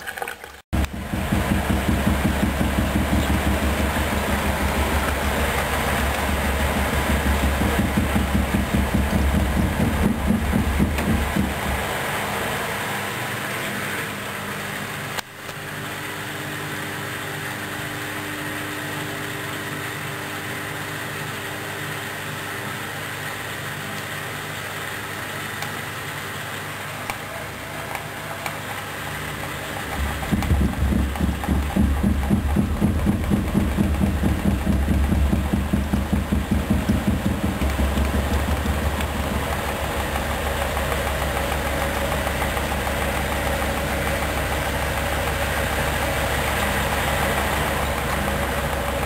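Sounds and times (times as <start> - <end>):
washing machine hum: 0.0 - 49.0
washing machine low pulsing: 0.7 - 49.0.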